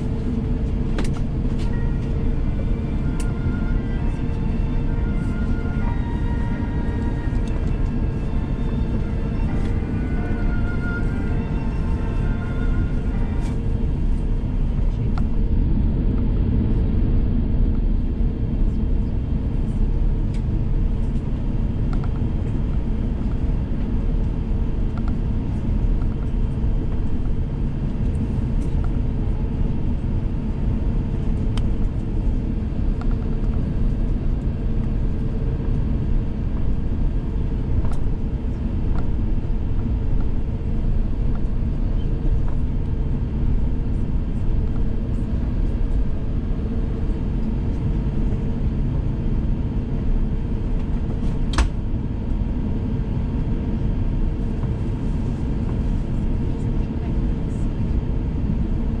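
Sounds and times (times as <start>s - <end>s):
airplane cabin rumble: 0.0s - 59.0s.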